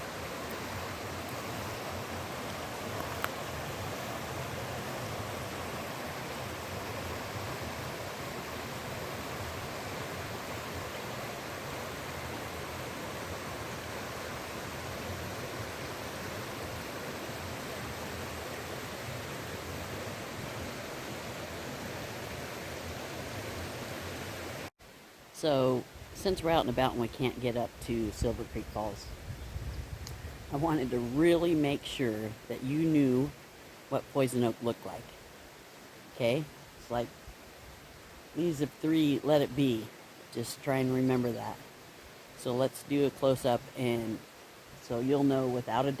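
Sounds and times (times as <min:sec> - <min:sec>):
flowing water rushing: 0:00.0 - 0:29.2, 0:30.2 - 0:46.0.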